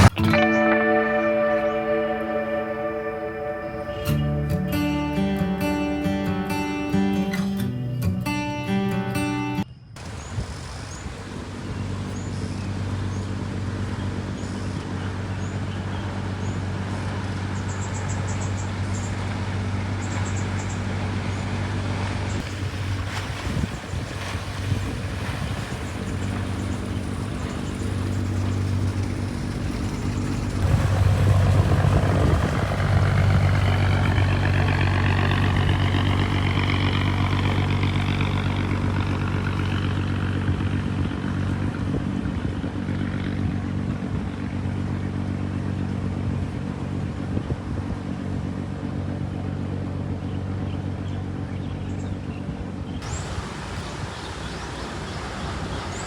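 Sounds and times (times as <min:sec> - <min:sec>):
rising engine whine: 0:00.0 - 0:08.0, 0:11.4 - 0:56.0
boat engine running: 0:00.0 - 0:56.0.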